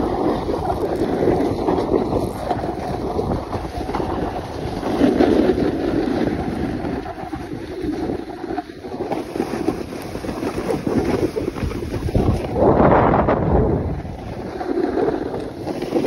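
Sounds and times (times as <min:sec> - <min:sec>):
snowboard scraping over snow: 0:00.0 - 0:16.0
wind rushing over microphone: 0:00.0 - 0:16.0.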